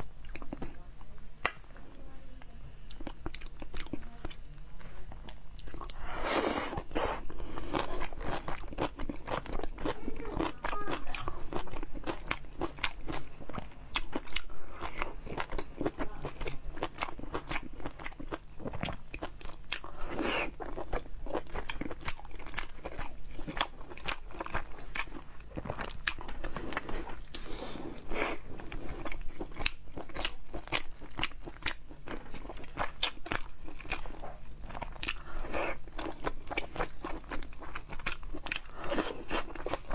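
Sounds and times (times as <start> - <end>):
woman chewing food: 0.0 - 0.8, 2.8 - 39.9.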